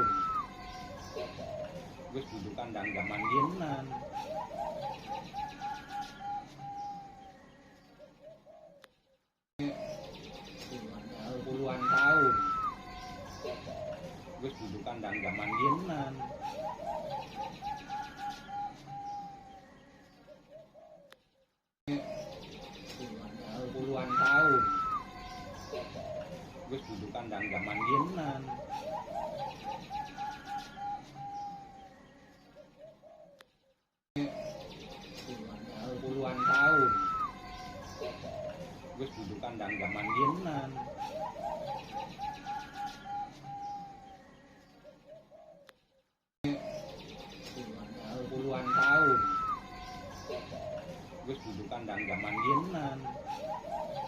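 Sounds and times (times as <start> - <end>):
dove cooing: 0.0 - 8.8, 11.0 - 21.2, 21.9 - 33.4, 34.2 - 45.7, 46.5 - 54.0.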